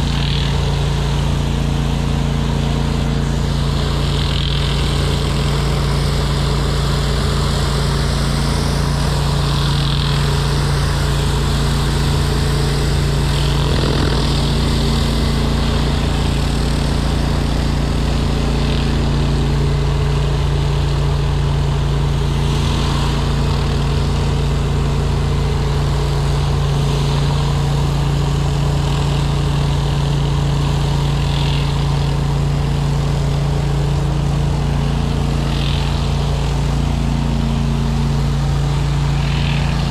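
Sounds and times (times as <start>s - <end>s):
pressure washer engine hum: 0.0s - 39.9s.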